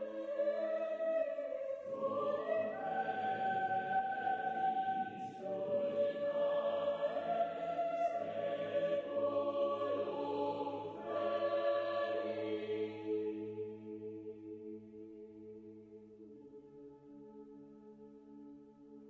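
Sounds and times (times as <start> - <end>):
slow choral music: 0.0 - 19.0.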